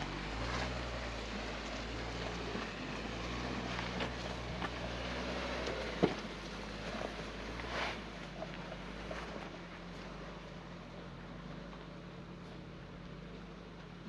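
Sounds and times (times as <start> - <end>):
car engine running under load: 0.0 - 14.0.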